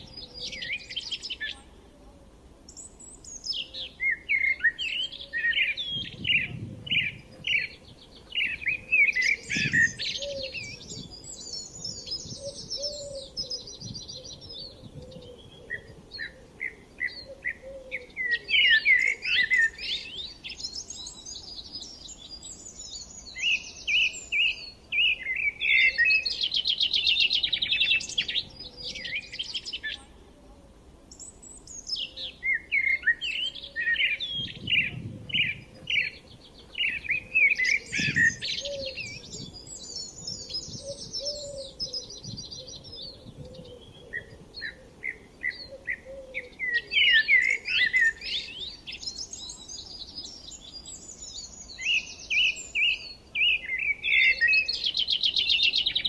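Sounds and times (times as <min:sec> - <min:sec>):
songbirds chirping and singing: 0:00.0 - 0:01.9, 0:02.7 - 0:56.0.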